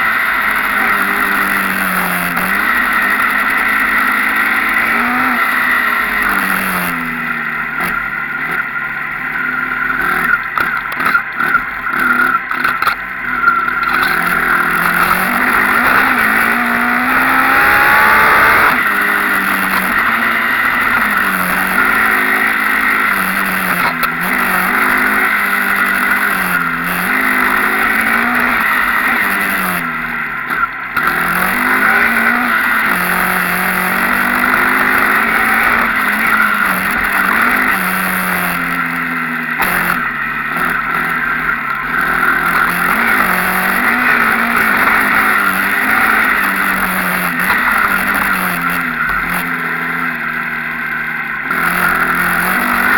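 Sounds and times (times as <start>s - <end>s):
off-road motorcycle engine revving: 0.0s - 52.9s.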